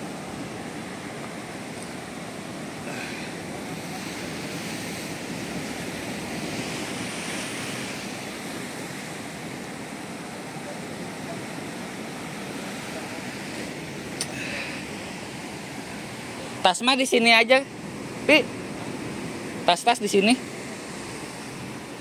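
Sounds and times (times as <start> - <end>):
ocean surf breaking on rocks: 0.0 - 22.0.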